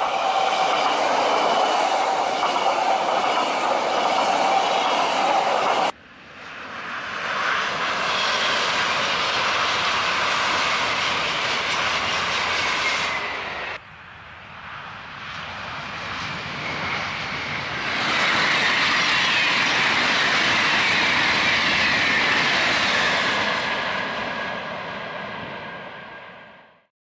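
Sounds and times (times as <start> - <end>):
high-speed train rushing: 0.0 - 26.9.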